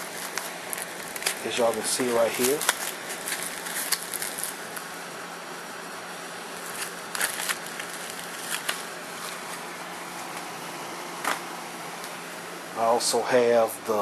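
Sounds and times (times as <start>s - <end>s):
air conditioner hissing: 0.0s - 14.0s.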